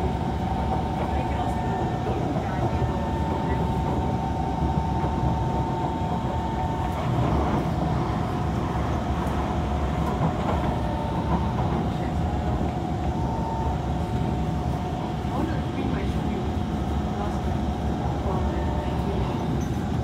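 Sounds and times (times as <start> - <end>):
passing train: 0.0 - 20.0
train wheels rumbling on rails: 0.0 - 20.0.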